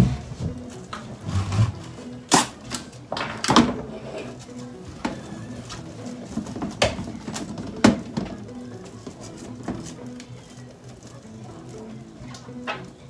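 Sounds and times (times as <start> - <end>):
utensils and cookware clattering: 0.0 - 13.0.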